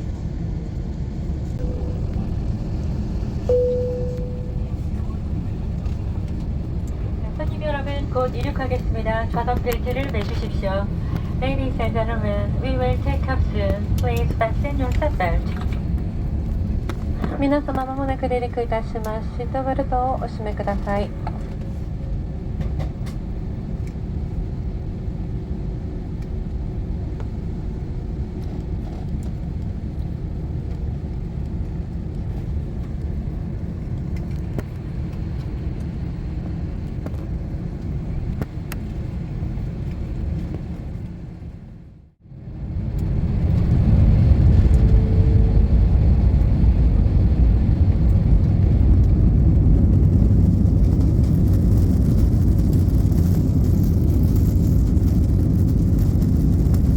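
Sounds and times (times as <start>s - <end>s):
airliner engines rumbling: 0.0s - 56.9s.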